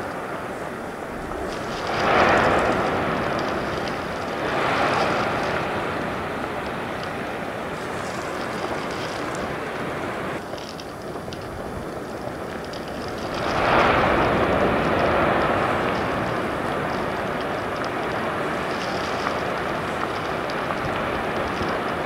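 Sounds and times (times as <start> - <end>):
faint crackles: 0.0 - 22.0
volcanic eruption rumbling rush: 0.0 - 22.0.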